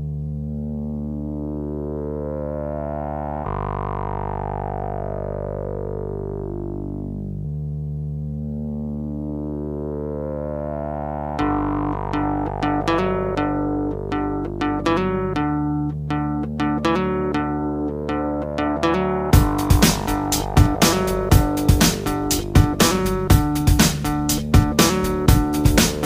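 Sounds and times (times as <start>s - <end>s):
synthesizer pad chords: 0.0s - 26.0s.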